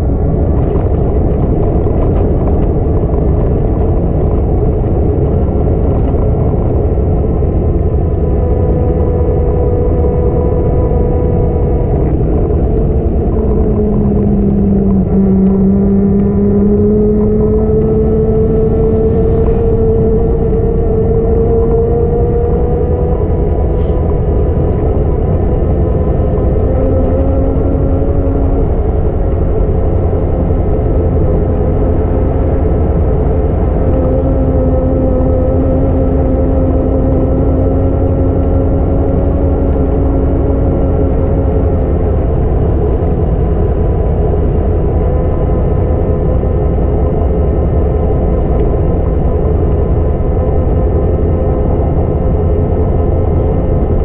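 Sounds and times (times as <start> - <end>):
faint hum: 0.0 - 54.0
wind rumble on microphone: 0.0 - 54.0.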